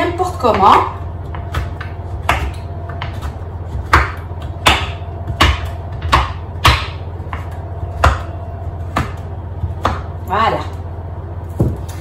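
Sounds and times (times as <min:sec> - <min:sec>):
steady low hum: 0:00.0 - 0:12.0
knife chopping on wooden board: 0:00.6 - 0:10.2, 0:11.5 - 0:12.0.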